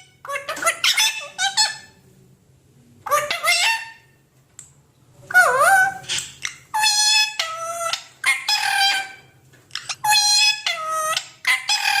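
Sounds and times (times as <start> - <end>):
parrot squawking: 0.0 - 2.0, 3.0 - 4.2, 5.3 - 12.0.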